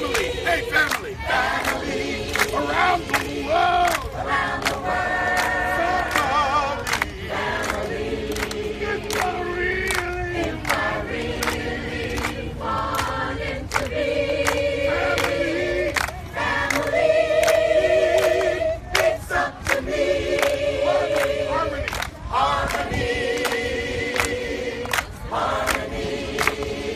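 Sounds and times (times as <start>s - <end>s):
group of people singing: 0.0s - 26.9s
rhythmic hand clapping: 0.0s - 26.9s.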